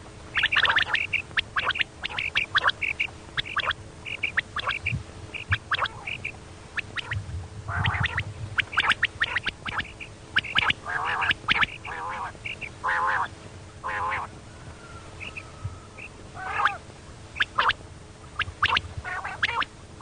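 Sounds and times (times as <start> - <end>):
quail calling: 0.3 - 19.7.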